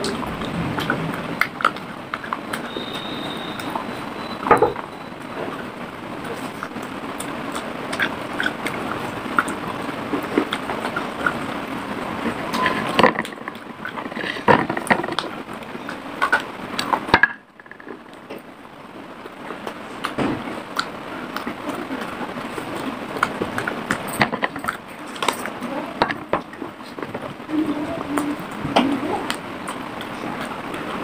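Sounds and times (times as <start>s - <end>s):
chewing and crunching clay: 0.0s - 18.4s, 19.1s - 27.4s, 28.0s - 31.0s.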